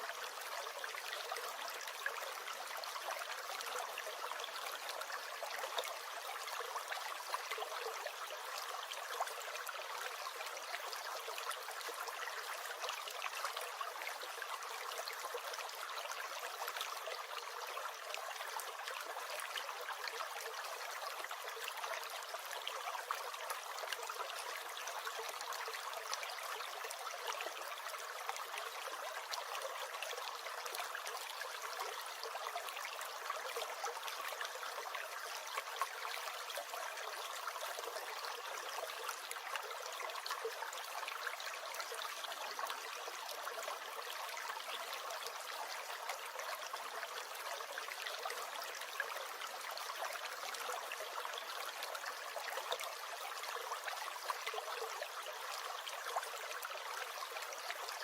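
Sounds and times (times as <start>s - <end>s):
stream gurgling and trickling: 0.0s - 58.0s.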